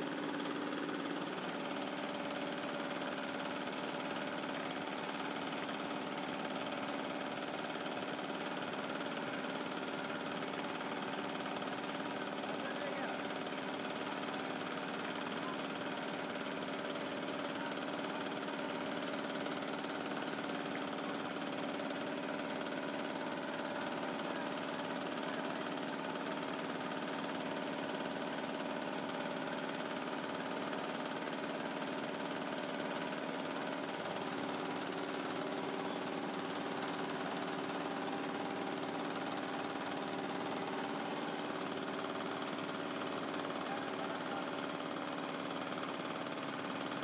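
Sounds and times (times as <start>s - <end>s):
meat grinder humming: 0.0s - 47.0s.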